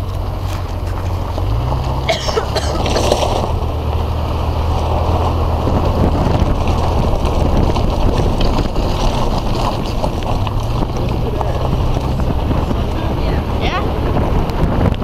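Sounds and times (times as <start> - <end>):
car engine revving: 0.0 - 15.0
rattles and knocks: 0.0 - 15.0.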